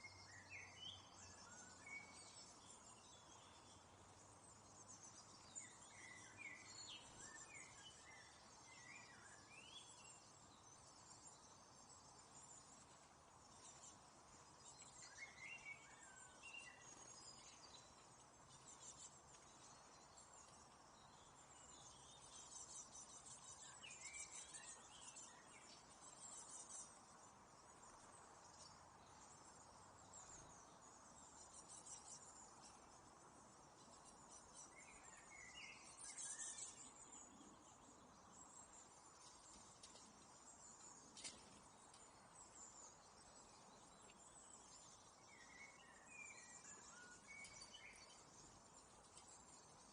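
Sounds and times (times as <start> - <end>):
faint small birds chirping: 0.0 - 49.9
steady outdoor hiss: 0.0 - 49.9.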